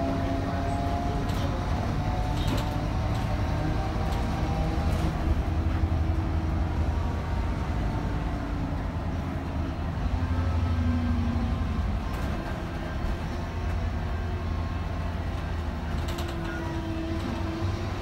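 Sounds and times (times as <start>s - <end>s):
bus engine and road drone: 0.0s - 18.0s.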